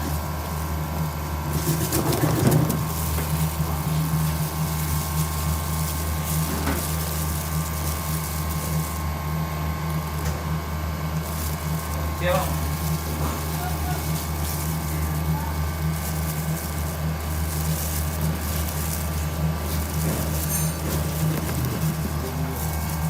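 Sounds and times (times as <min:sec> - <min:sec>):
machine motor hum: 0:00.0 - 0:23.0.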